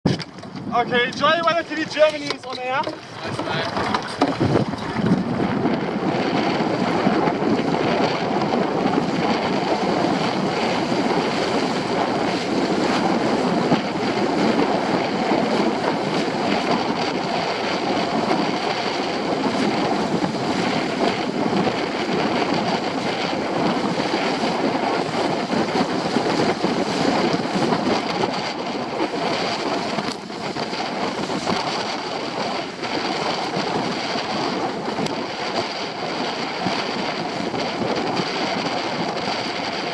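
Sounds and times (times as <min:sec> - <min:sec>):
water rushing along hulls: 0:00.0 - 0:39.9
wind buffeting microphone: 0:00.0 - 0:39.9.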